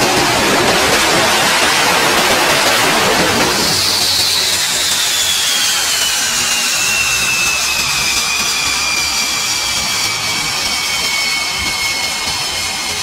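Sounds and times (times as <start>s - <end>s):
jet engines rushing and whining: 0.0s - 13.0s.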